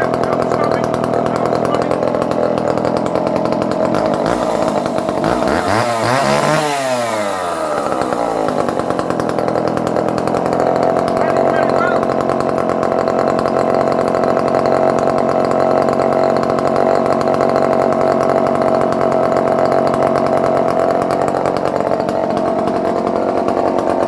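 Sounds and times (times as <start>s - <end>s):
chainsaw running near idle: 0.0s - 24.0s.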